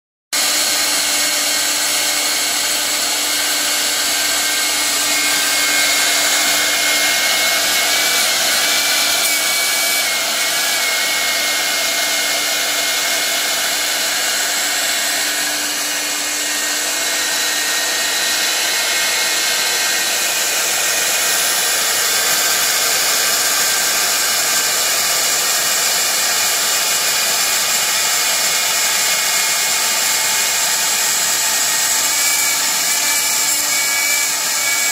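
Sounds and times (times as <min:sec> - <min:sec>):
router spindle high-pitched whine: 0:00.4 - 0:34.9.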